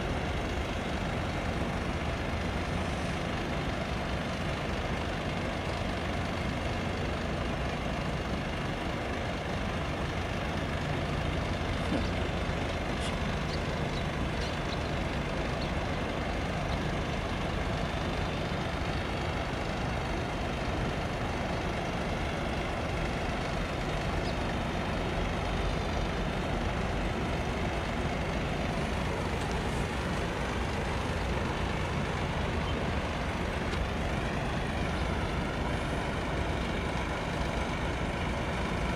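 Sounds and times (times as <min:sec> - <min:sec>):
low engine rumble: 0:00.0 - 0:38.9.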